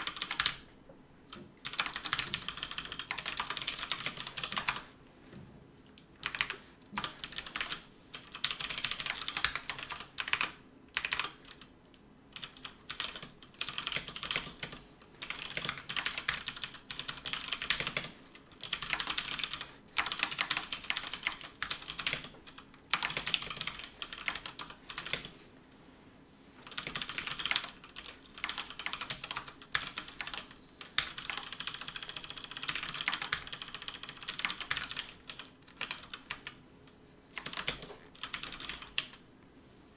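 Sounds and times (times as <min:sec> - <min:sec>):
fast typing on keyboard: 0:00.0 - 0:00.7, 0:01.6 - 0:04.9, 0:06.2 - 0:11.7, 0:12.3 - 0:25.4, 0:26.6 - 0:36.6, 0:37.3 - 0:39.2.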